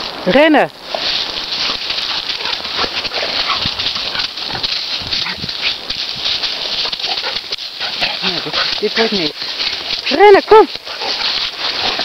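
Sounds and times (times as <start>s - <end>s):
dogs running through leaves: 0.0s - 12.0s
dry leaves crackling and rustling: 0.0s - 12.0s
footsteps on leaves: 0.0s - 12.0s
low dog sounds: 0.9s - 12.0s.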